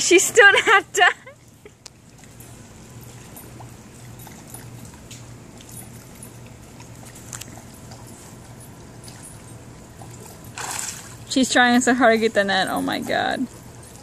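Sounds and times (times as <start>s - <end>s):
dog paddling in water: 0.0s - 14.0s
steady low hum: 0.0s - 14.0s.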